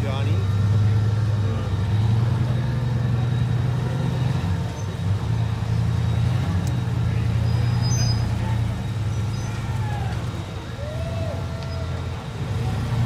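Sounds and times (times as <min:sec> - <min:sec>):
buggy engine running under load: 0:00.0 - 0:13.0.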